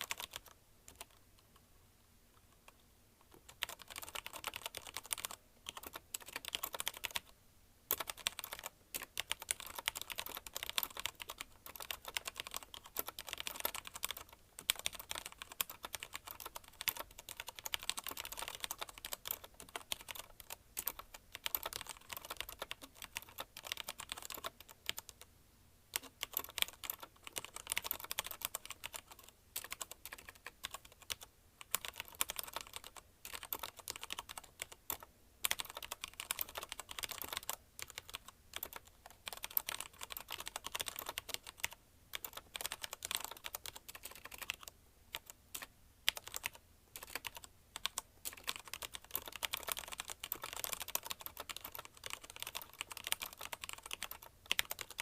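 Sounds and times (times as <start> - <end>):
mechanical keyboard typing: 0.0 - 1.2, 3.3 - 7.3, 7.9 - 25.2, 25.9 - 55.0.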